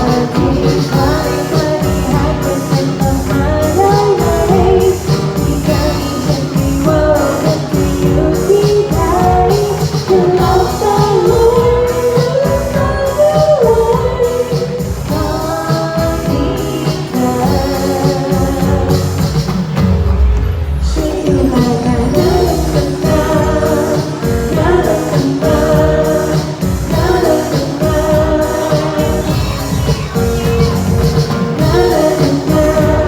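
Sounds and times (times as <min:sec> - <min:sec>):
person singing melody: 0:00.0 - 0:19.7, 0:20.7 - 0:33.0
bass: 0:00.0 - 0:33.0
steady drum beat: 0:00.0 - 0:33.0.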